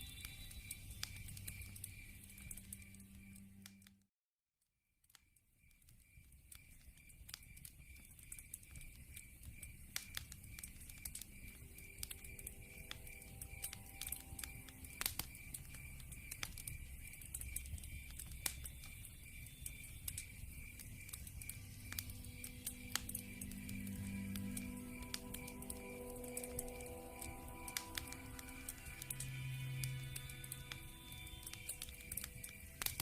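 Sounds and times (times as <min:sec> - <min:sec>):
cricket chirping: 0:00.0 - 0:03.9, 0:05.1 - 0:33.0
log fire crackling and popping: 0:00.0 - 0:03.9, 0:05.1 - 0:33.0.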